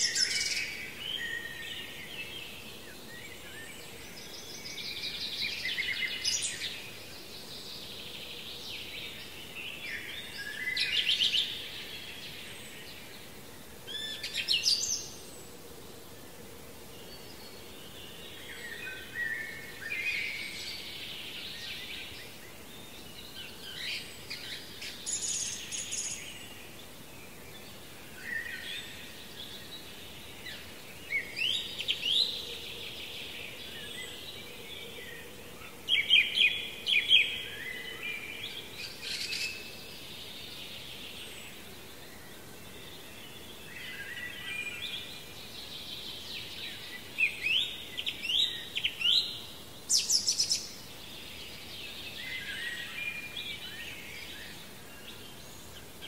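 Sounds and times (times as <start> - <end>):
faint steady background hiss: 0.0 - 56.0
songbirds singing: 0.0 - 56.0.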